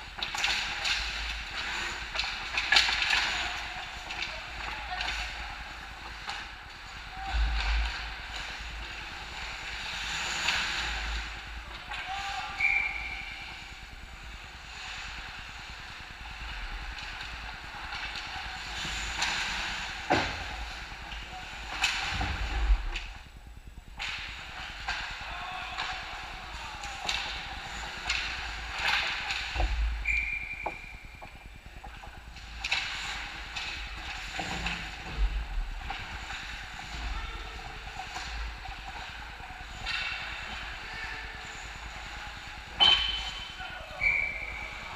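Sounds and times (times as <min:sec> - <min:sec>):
sticks and puck clacking: 0:00.0 - 0:23.2, 0:24.0 - 0:44.9
low rink rumble: 0:00.0 - 0:44.9.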